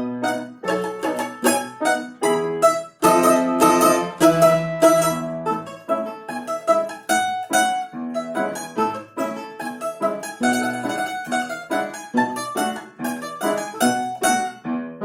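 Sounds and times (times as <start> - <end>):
piano accompaniment: 0.0 - 15.0
plucked string instrument tune: 0.0 - 15.0.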